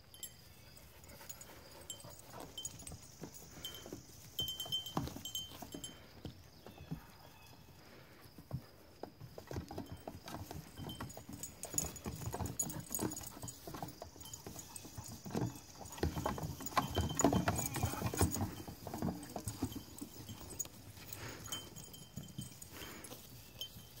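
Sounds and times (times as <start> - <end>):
goat hooves tapping: 0.1 - 7.5, 8.4 - 24.0.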